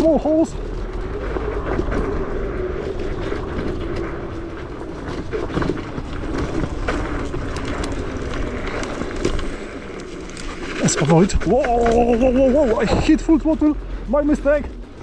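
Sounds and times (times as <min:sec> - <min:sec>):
scooter rattling over bumps: 0:00.0 - 0:15.0
wind rumble on microphone: 0:00.0 - 0:15.0.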